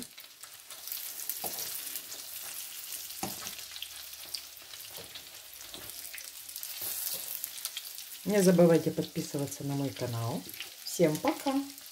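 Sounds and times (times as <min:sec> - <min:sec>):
food sizzling in hot oil: 0:00.0 - 0:11.9.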